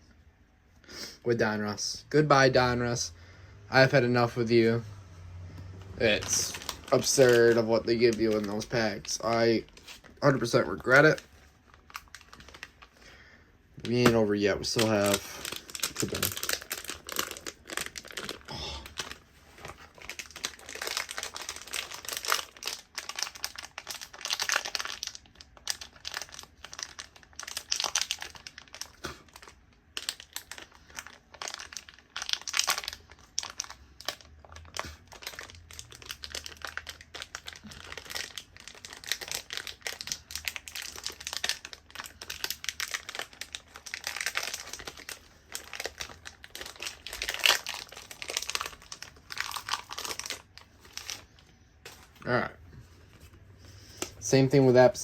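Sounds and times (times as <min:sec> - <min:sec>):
card pack wrappers crinkling: 0:05.7 - 0:13.2, 0:13.8 - 0:52.4
wrappers being torn open: 0:05.9 - 0:13.0, 0:13.8 - 0:52.1.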